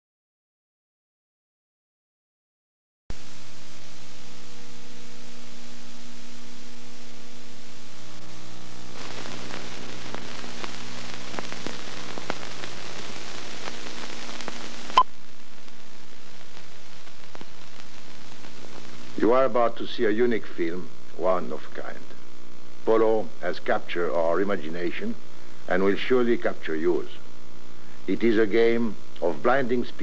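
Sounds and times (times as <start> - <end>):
steady hiss: 3.1 - 30.0
crackles and clicks: 3.2 - 23.5, 24.5 - 29.7
low hum: 3.2 - 29.2.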